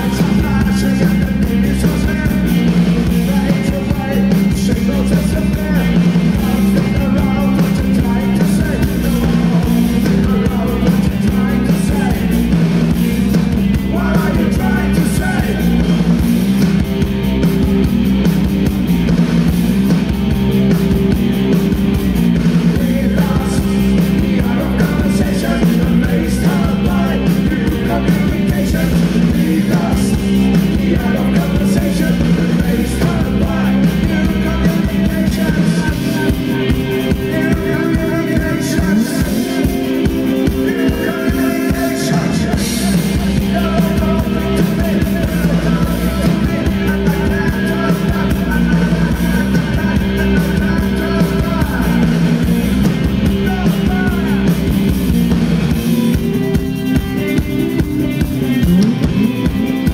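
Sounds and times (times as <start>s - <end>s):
man singing: 0.0s - 16.2s, 22.6s - 54.9s
bass guitar: 0.0s - 59.9s
drums: 0.0s - 59.9s
electric guitar: 0.0s - 59.9s.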